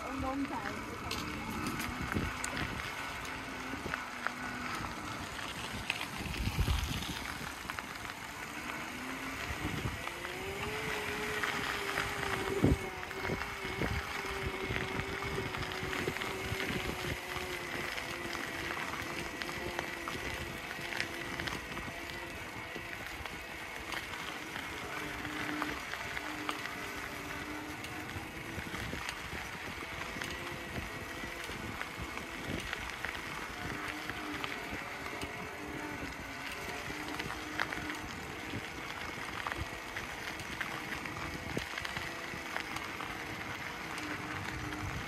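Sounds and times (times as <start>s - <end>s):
bicycle knocking over bumps: 0.0s - 45.0s
bicycle tyres crunching on gravel: 0.0s - 45.0s.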